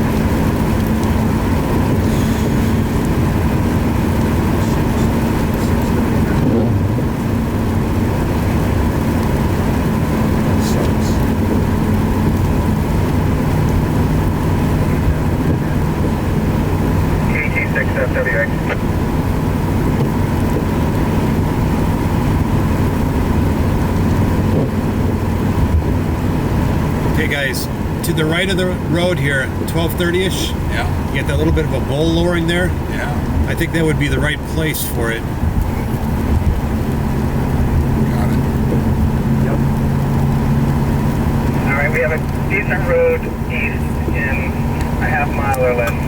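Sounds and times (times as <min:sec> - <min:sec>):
vehicle road and engine noise: 0:00.0 - 0:46.0.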